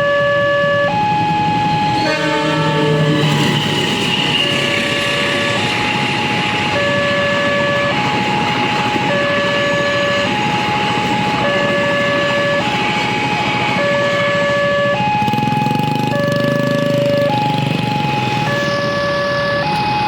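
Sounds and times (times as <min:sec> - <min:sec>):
level crossing alarm: 0:00.0 - 0:20.0
passing train: 0:00.0 - 0:20.0.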